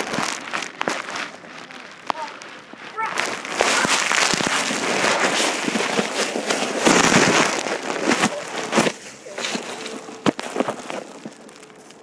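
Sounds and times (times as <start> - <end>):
microphone handling noise: 0.0 - 12.0.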